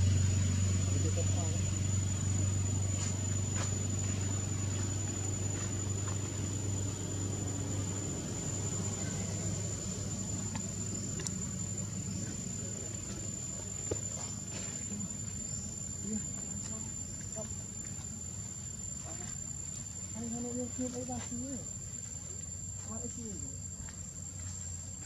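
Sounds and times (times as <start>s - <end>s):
insect high-pitched drone: 0.0s - 25.0s
low hum: 0.0s - 25.0s.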